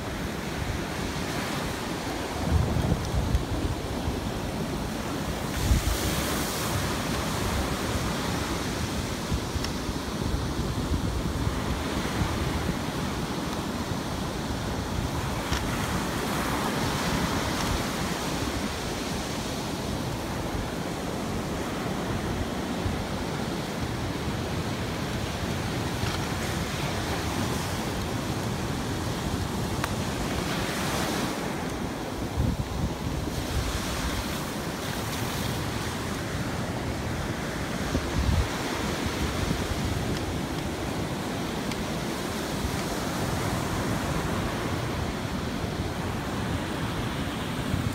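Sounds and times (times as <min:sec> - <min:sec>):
ocean surf breaking: 0:00.0 - 0:47.9
wind rushing over microphone: 0:00.0 - 0:47.9.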